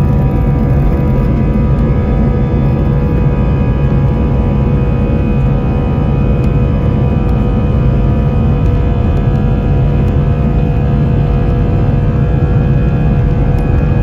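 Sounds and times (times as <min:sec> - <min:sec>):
jet engines at takeoff power: 0:00.0 - 0:14.0.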